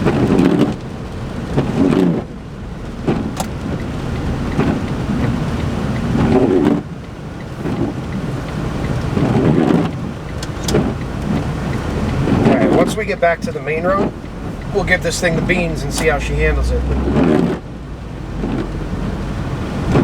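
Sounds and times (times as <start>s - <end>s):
car engine: 0.0s - 20.0s
road rumble: 0.0s - 20.0s.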